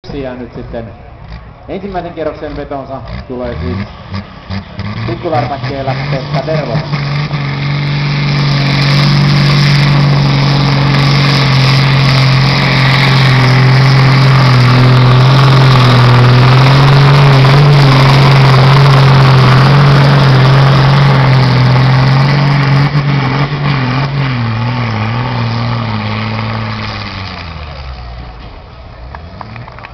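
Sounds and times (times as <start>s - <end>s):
tractor diesel engine under load: 0.0s - 29.9s.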